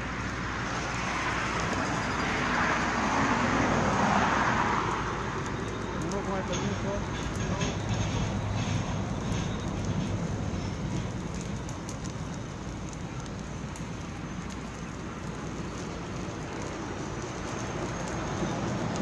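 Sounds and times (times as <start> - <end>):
leaf fire crackling and popping: 0.0 - 19.0
steady fire hiss: 0.0 - 19.0.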